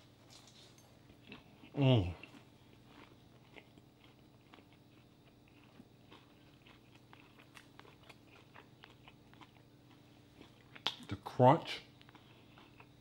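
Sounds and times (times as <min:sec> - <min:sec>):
crunching and chewing food: 0:00.0 - 0:13.0
low room hum: 0:00.0 - 0:13.0.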